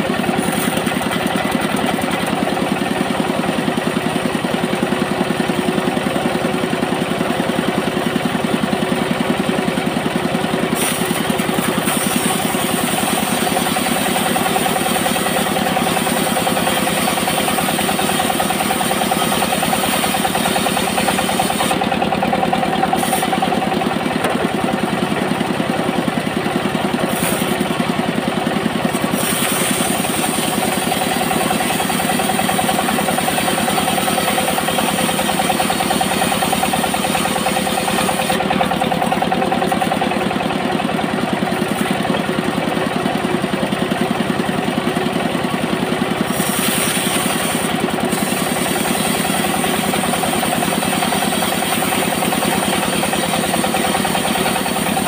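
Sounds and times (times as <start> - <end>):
band sawmill droning: 0.0 - 55.0.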